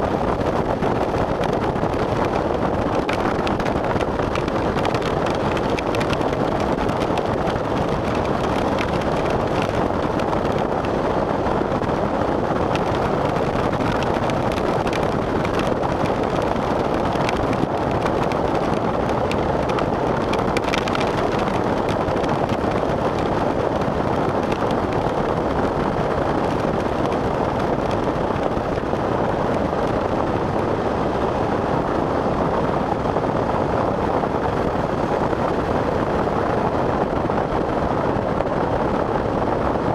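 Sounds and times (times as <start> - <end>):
rain on a vehicle: 0.0 - 39.9
vehicle driving on wet road: 0.0 - 39.9.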